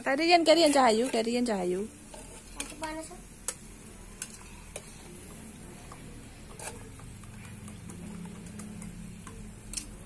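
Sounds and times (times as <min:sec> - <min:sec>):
metal utensils clicking on pan: 0:00.0 - 0:10.0.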